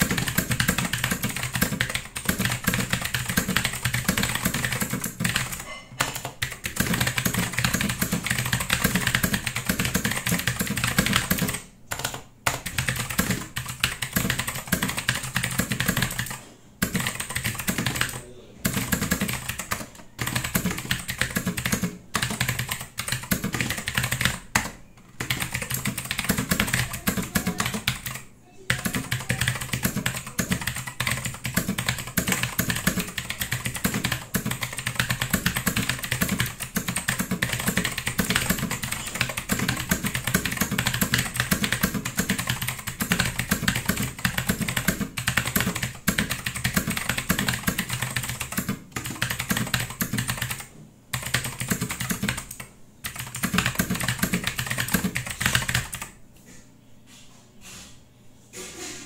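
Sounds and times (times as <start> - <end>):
mechanical keyboard typing: 0.0 - 56.2.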